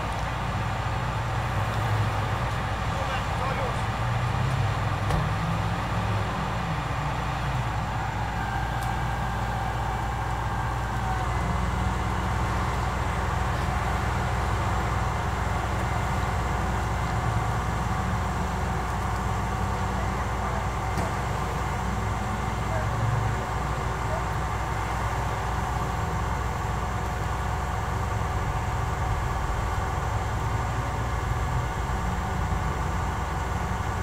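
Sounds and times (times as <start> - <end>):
street traffic: 0.0 - 34.0
vehicle engine idling: 0.0 - 34.0.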